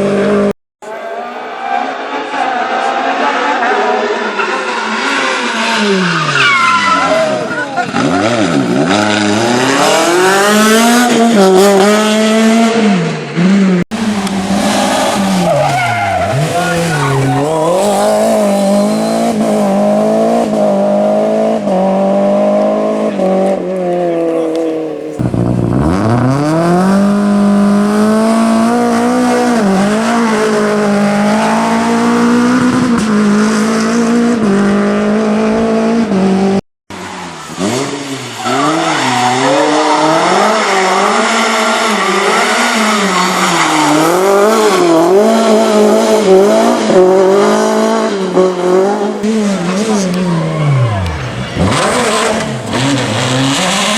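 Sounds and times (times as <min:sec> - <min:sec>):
rally car engines revving hard: 0:01.3 - 0:53.9.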